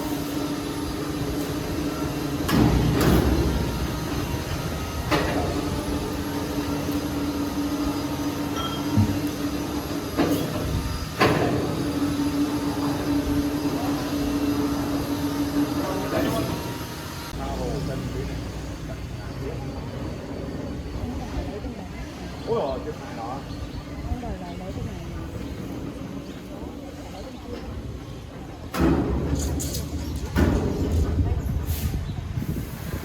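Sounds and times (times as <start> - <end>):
sawmill machinery humming: 0.0 - 30.6.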